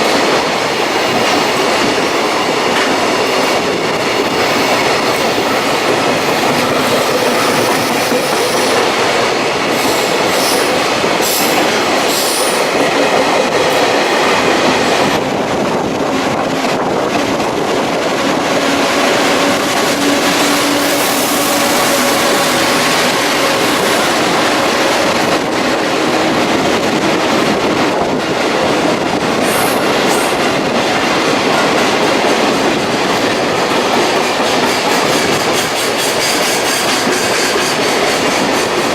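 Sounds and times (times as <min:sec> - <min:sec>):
freight train wheels rushing on rail: 0:00.0 - 0:38.9.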